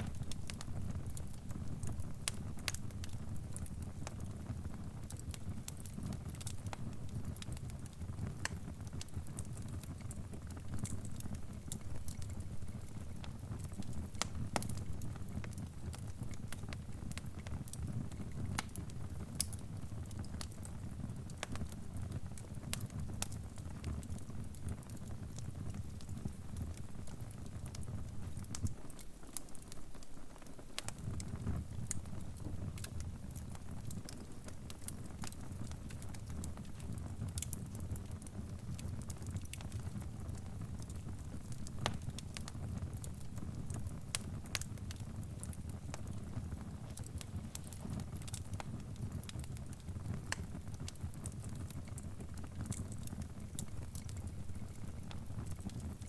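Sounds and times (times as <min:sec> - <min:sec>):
fire popping and snapping: 0:00.0 - 0:56.0
fire rumbling: 0:00.0 - 0:56.0.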